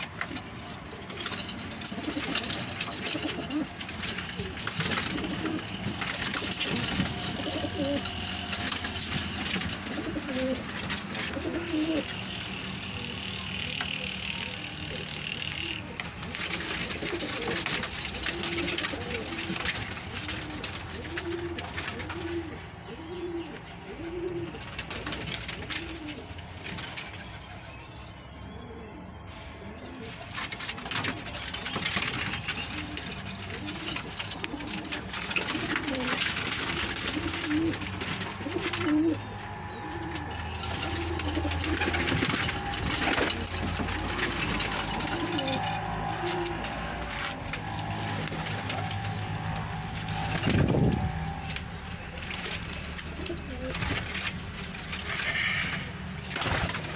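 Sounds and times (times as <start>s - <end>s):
wings flapping: 0.0s - 28.2s, 30.0s - 56.9s
pigeons cooing: 0.0s - 56.9s.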